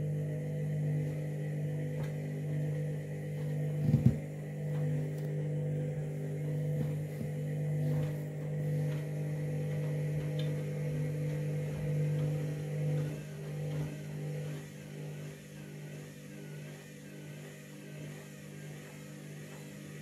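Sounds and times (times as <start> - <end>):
washing machine drum motor humming: 0.0 - 20.0.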